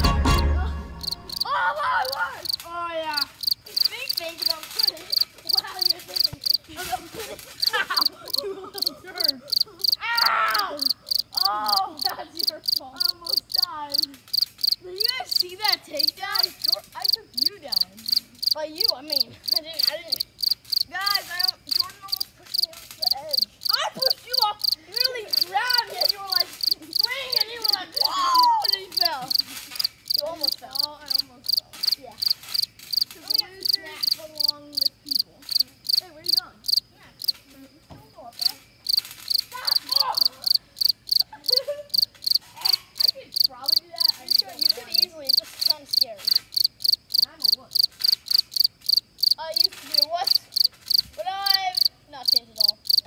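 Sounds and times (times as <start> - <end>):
crickets chirping: 1.0 - 53.0.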